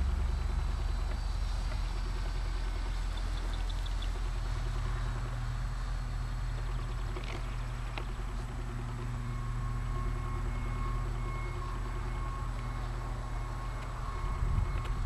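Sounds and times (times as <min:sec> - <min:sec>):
model airplane motor drone: 0:00.0 - 0:15.0
steady low rumble: 0:00.0 - 0:15.0.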